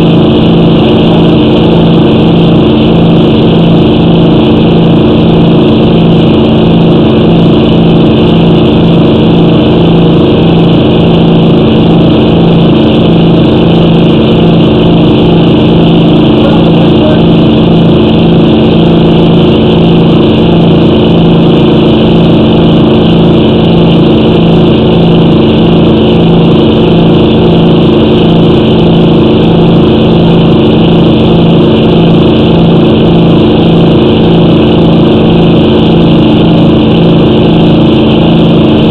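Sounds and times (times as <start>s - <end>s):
loud low hum: 0.0s - 38.9s.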